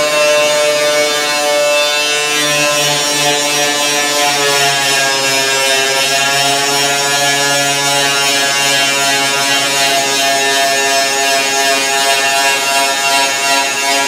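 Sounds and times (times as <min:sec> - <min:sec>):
power tool droning whine: 0:00.0 - 0:14.0.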